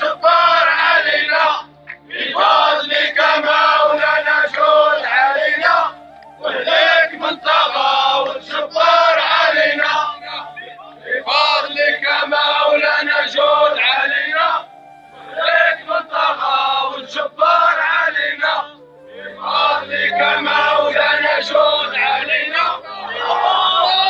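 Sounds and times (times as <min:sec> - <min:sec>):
men chanting: 0:00.0 - 0:24.0.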